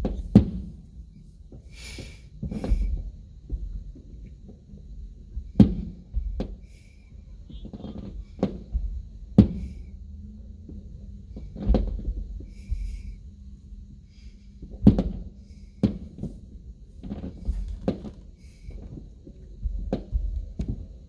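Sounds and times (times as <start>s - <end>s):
fireworks booming: 0.0s - 10.0s, 10.6s - 13.3s, 14.6s - 21.0s
low rumbling: 0.0s - 21.0s.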